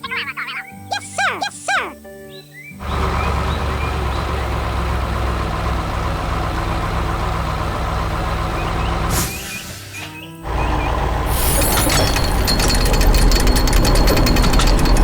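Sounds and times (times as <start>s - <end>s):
heavy machine engine droning: 2.8s - 15.0s.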